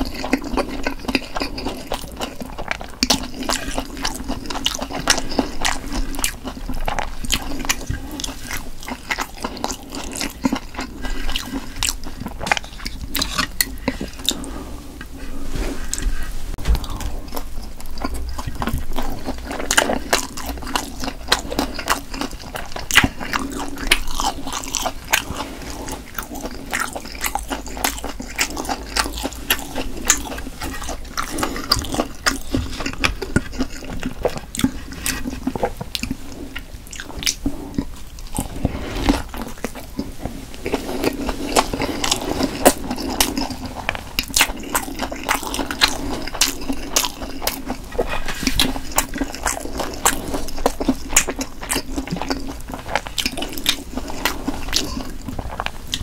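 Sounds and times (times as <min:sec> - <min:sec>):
biting and chewing: 0:00.0 - 0:15.2, 0:15.9 - 0:56.0.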